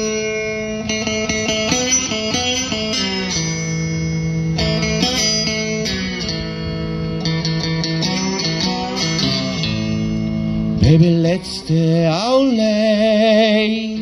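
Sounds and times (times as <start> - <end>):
amplified guitar with slides: 0.0 - 14.0.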